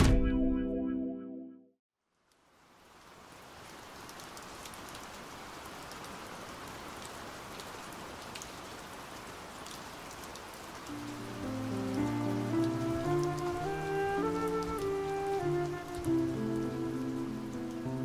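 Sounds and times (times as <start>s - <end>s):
steady rain falling: 2.0s - 18.0s
raindrops ticking: 2.2s - 18.0s.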